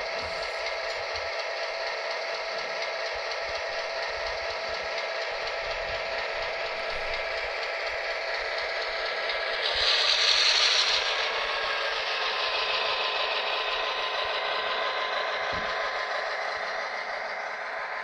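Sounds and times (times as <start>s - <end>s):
toy electric train running: 0.0s - 18.0s.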